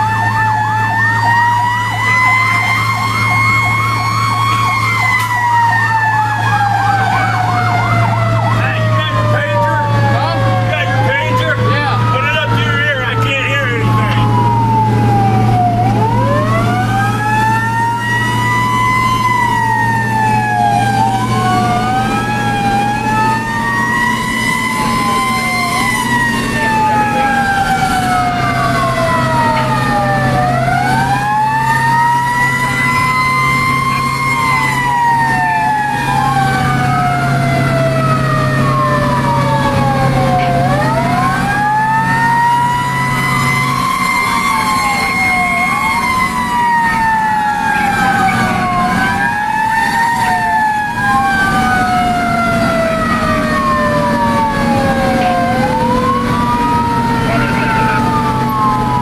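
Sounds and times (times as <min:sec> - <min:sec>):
fire truck sirens wailing: 0:00.0 - 0:59.0
truck engine drone: 0:00.0 - 0:59.0.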